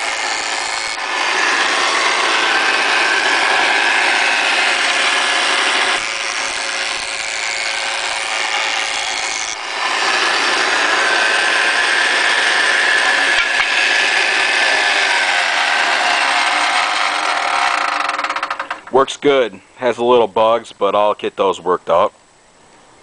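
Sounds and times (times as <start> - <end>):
jointer planing a board: 0.0 - 19.0.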